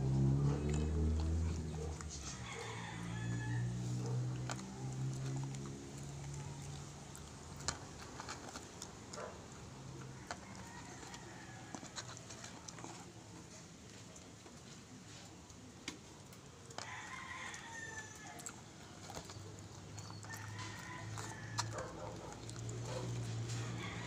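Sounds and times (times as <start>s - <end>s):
dog chewing food: 0.0s - 15.2s, 16.2s - 24.0s.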